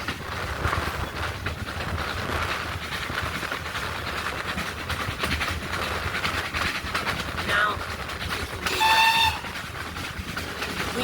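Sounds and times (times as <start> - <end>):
steam train rumbling and rattling: 0.0 - 11.0
wheels clattering on rails: 0.0 - 11.0.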